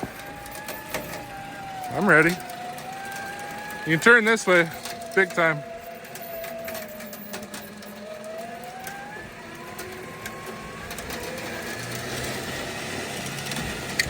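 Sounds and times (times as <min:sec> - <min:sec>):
heavy truck engine running: 0:00.0 - 0:14.0.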